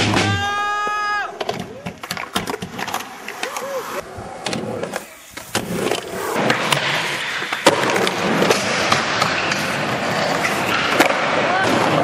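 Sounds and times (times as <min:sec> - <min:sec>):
skateboard clacks: 0:00.1 - 0:12.0
skateboard wheels rolling: 0:00.1 - 0:12.0.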